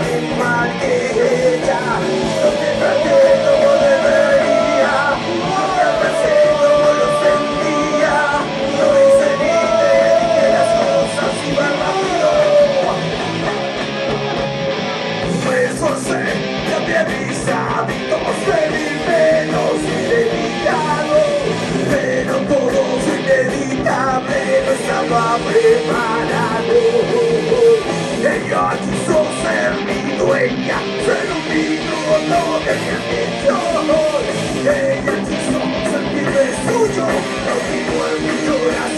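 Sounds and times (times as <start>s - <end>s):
person singing: 0.0s - 13.5s, 15.2s - 38.9s
drums: 0.0s - 38.9s
electric guitars: 0.0s - 38.9s.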